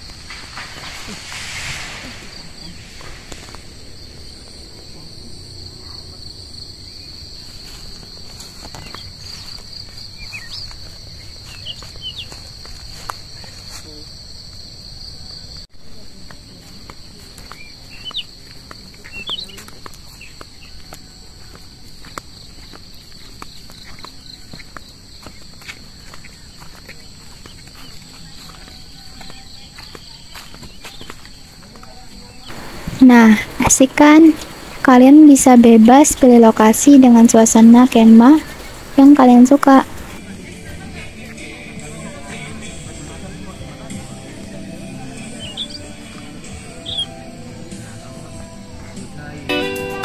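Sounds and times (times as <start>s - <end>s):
insect chorus pulsing: 0.0s - 49.3s.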